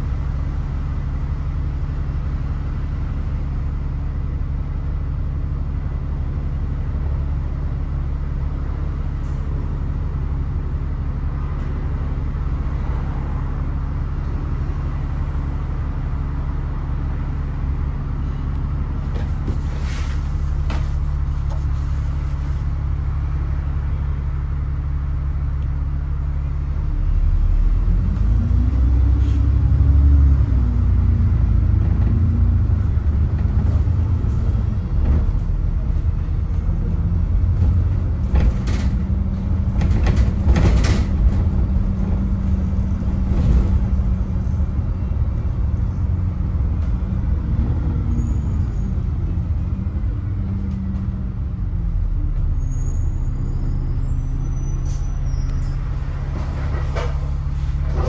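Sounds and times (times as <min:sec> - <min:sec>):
bus engine rumble: 0:00.0 - 0:58.0
bus engine whine: 0:00.0 - 0:58.0.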